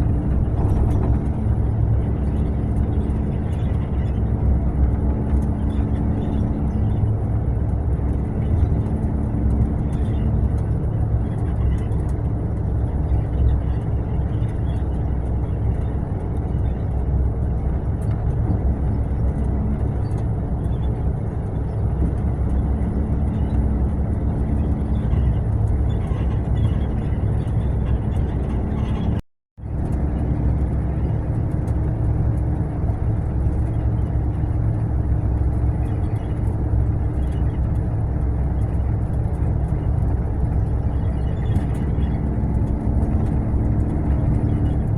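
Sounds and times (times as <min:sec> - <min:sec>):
coach engine and road rumble: 0:00.0 - 0:44.9.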